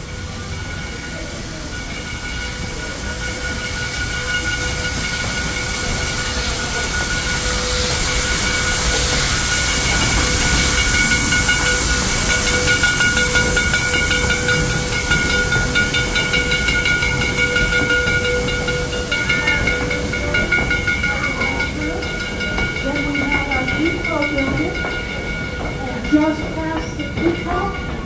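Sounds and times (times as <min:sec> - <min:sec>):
steady high-pitched tones: 0:00.0 - 0:28.0
steam hissing: 0:00.0 - 0:28.0
train wheels rumbling: 0:00.0 - 0:28.0.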